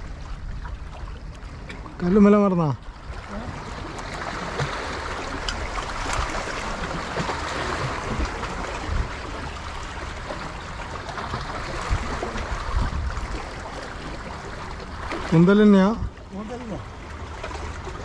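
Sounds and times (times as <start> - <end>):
sea water splashing: 0.0 - 18.0.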